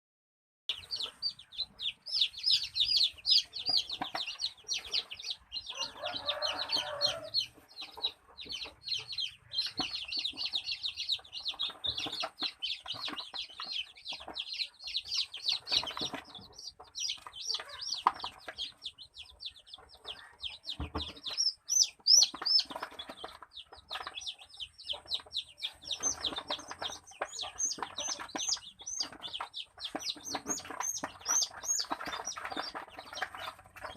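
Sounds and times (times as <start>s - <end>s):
chicks peeping: 0.7s - 33.9s.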